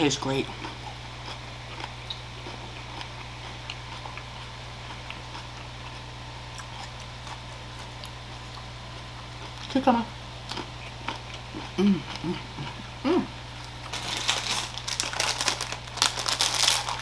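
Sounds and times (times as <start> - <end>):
person chewing food: 0.6 - 9.7, 10.4 - 13.0, 13.6 - 17.0.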